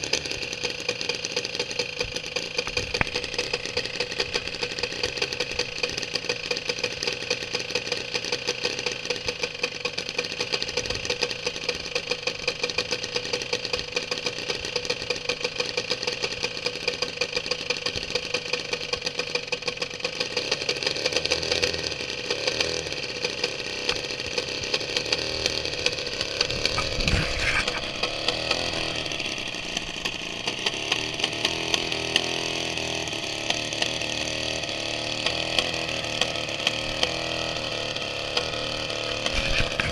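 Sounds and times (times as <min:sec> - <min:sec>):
engine running with propeller: 0:00.0 - 0:39.9.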